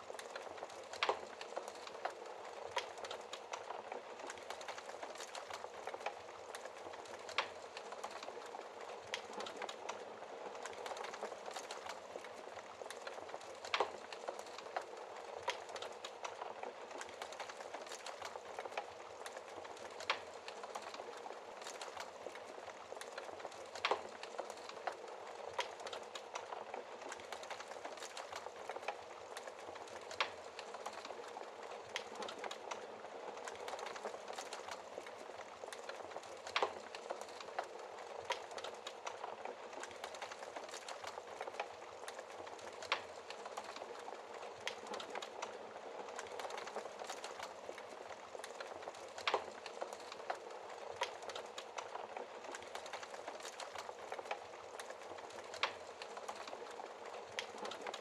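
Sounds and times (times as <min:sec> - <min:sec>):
wood fire crackling: 0:00.0 - 0:58.0
fire popping: 0:00.1 - 0:58.0.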